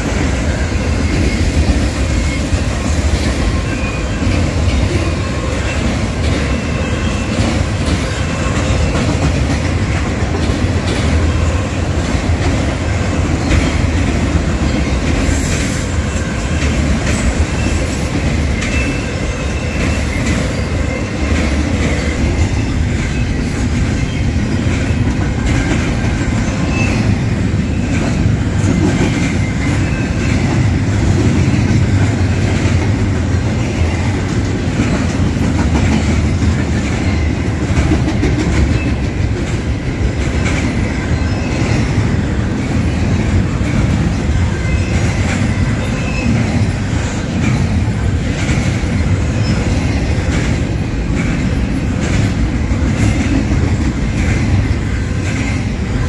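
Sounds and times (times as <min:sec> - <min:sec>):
wheels clacking over rail joints: 0:00.0 - 0:56.0.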